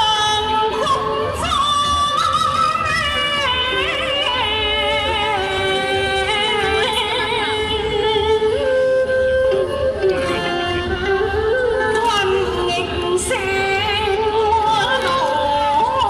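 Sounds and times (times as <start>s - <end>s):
instrumental accompaniment: 0.0s - 16.0s.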